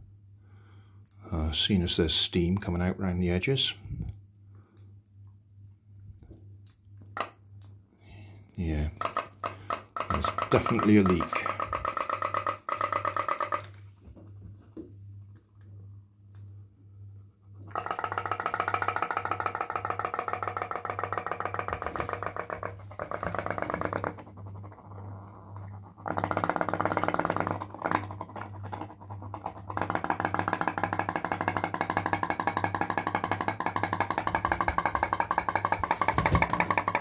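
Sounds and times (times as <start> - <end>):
pop-pop boat boiler buzzing: 6.5 - 37.0.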